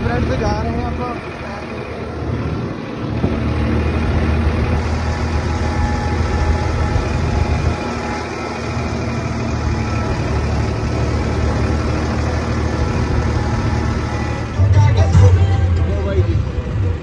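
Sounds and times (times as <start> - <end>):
road and wind noise: 0.0 - 17.0
tractor diesel engine drone: 0.0 - 17.0.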